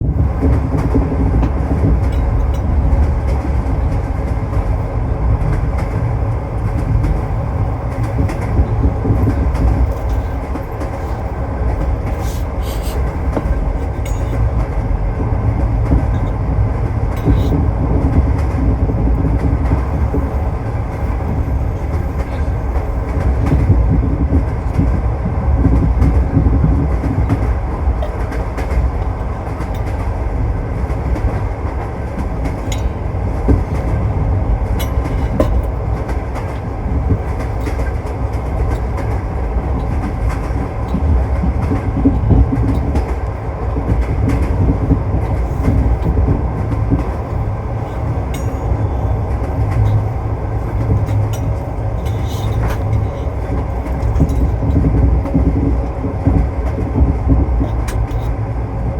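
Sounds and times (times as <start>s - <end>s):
train rumbling: 0.0s - 58.9s
wheels clattering over rails: 0.0s - 58.9s.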